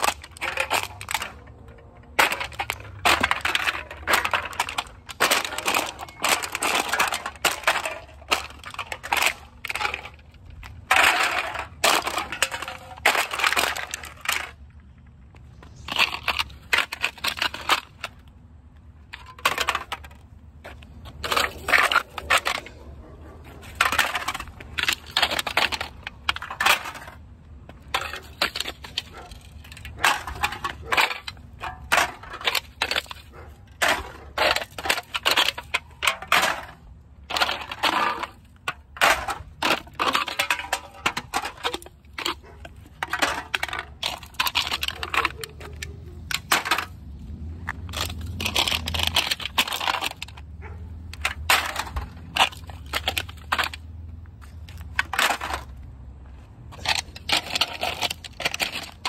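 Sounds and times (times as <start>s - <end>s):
aluminum cans crumpling: 0.0s - 14.6s, 19.1s - 22.8s, 27.8s - 55.8s, 56.7s - 59.0s.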